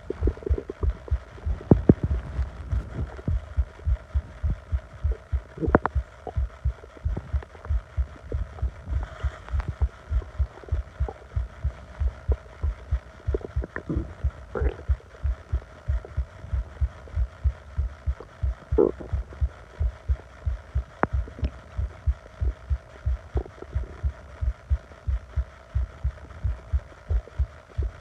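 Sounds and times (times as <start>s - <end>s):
low thumping pulse: 0.0s - 28.0s
stomach gurgling: 0.0s - 28.0s.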